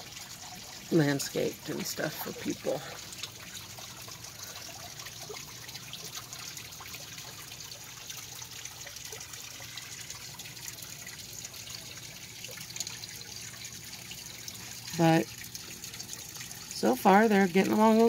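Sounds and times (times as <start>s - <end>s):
trickling water: 0.0s - 18.0s.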